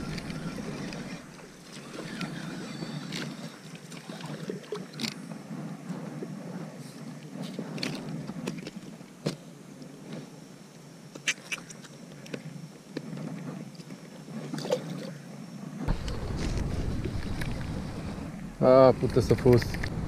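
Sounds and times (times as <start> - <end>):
water lapping against boat: 0.0 - 9.4, 11.2 - 20.0.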